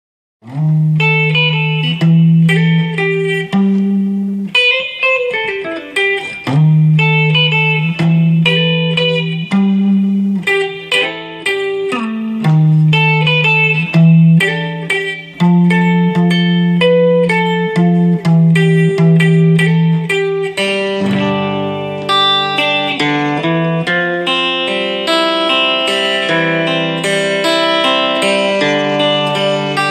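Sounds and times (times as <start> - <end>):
electric guitar rock riff: 0.4 - 29.9.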